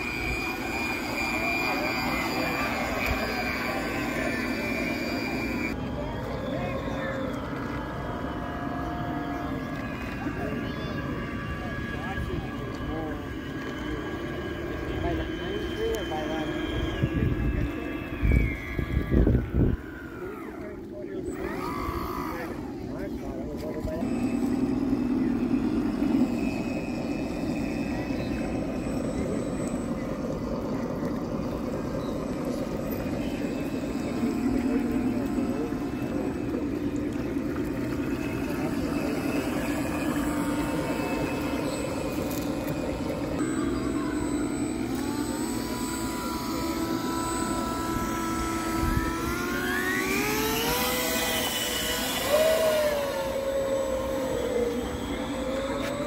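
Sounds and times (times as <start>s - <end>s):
model boat motor humming: 0.0s - 56.0s.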